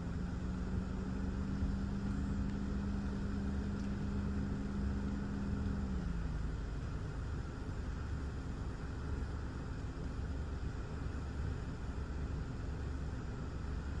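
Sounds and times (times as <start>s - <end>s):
steady motor-like hum: 0.0s - 14.0s
wind: 0.0s - 14.0s
rain: 0.8s - 14.0s.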